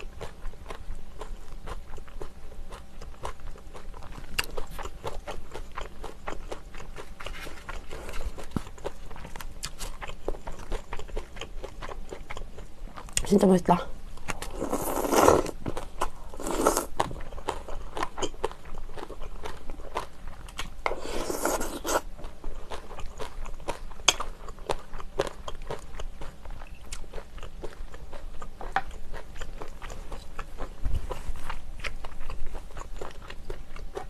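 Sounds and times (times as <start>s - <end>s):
wet chewing and crunching: 0.0s - 13.5s, 14.2s - 34.0s.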